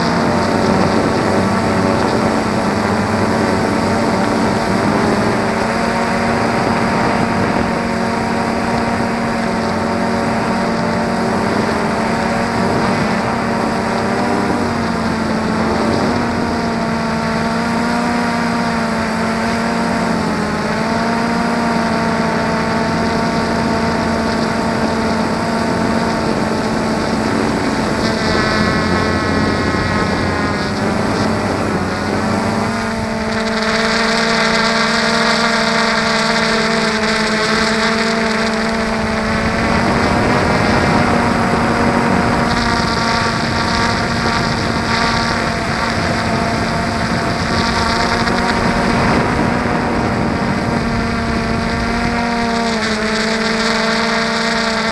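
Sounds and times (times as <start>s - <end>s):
drone motors whining: 0.0s - 54.9s.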